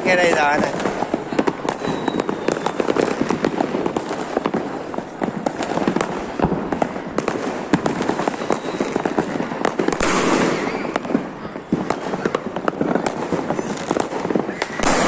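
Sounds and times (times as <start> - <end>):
fireworks cracking and popping: 0.0 - 15.0.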